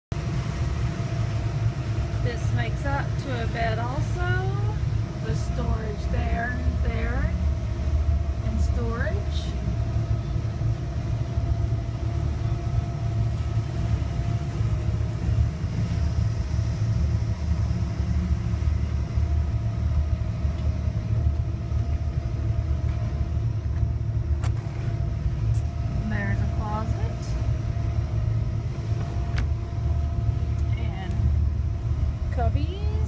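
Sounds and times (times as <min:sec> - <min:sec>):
boat engine running: 0:00.1 - 0:33.0.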